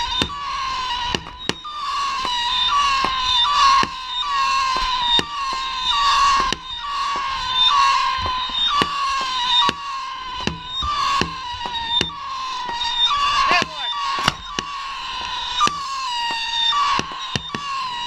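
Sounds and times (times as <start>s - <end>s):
firework cracks: 0.0s - 18.0s
whistling fireworks: 0.0s - 18.0s.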